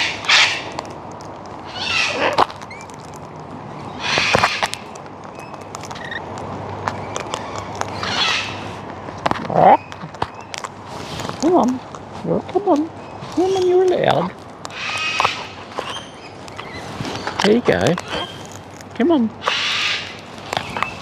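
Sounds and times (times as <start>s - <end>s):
cockatoos squawking: 0.0s - 0.9s, 1.6s - 3.1s, 3.9s - 21.0s
small clicks and taps: 4.2s - 21.0s.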